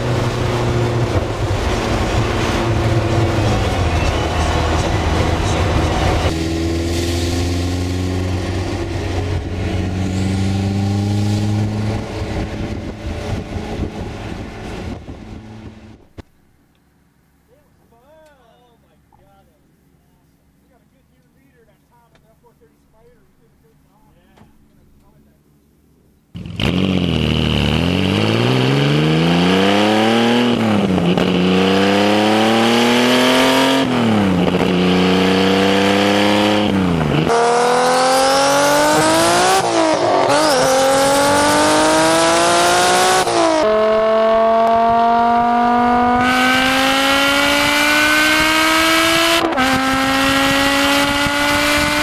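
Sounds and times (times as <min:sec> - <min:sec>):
car engine accelerating hard: 0:00.0 - 0:16.2, 0:26.4 - 0:52.0.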